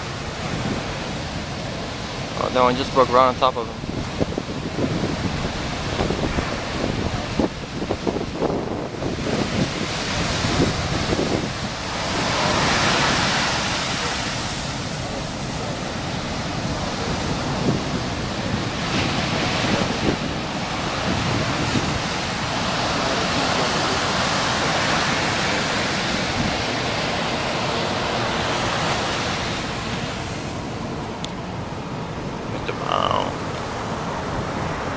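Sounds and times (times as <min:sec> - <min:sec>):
large waves breaking: 0:00.0 - 0:34.9
wind buffeting microphone: 0:00.0 - 0:34.9.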